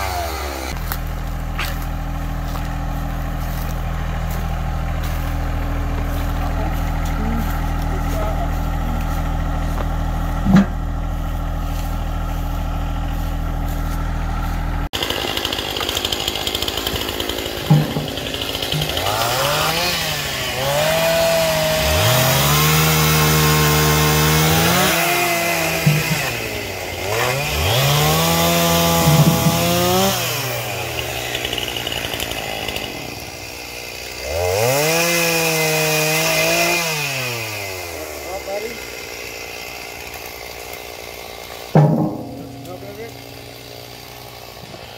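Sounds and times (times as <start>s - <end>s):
chainsaw cutting logs: 0.0s - 44.9s
tractor engine idling: 0.7s - 21.2s, 25.4s - 34.2s, 38.3s - 44.9s.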